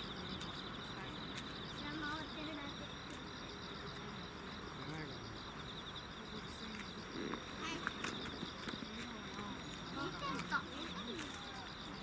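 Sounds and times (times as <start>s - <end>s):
faint chatter of people: 0.0s - 12.0s
night insects trilling: 0.0s - 12.0s.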